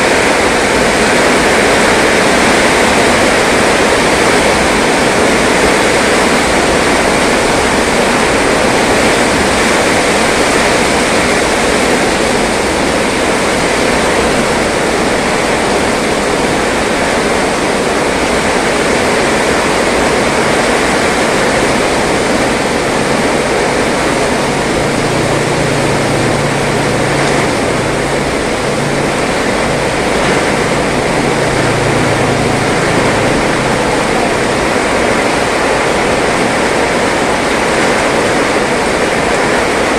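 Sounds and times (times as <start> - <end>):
heavy rain on road and roofs: 0.0 - 39.9.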